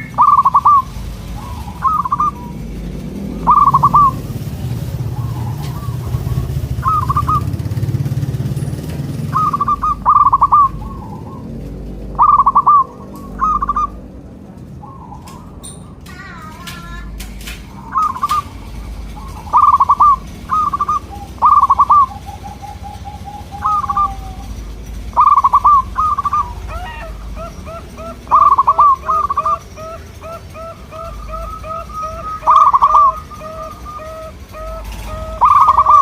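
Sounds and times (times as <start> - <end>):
doves cooing: 0.0 - 36.0.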